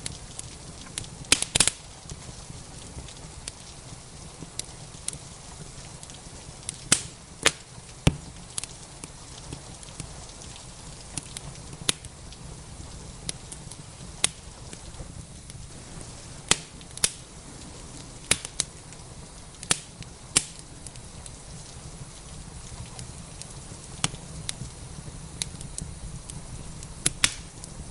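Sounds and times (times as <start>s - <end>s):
steady low rumble: 0.0s - 27.9s
wood fire crackling and popping: 0.0s - 27.9s.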